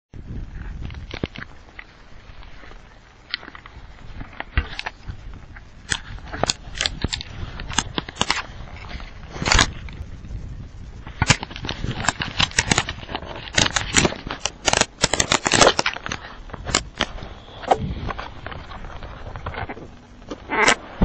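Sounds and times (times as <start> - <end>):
fabric rustling against microphone: 0.2 - 21.0.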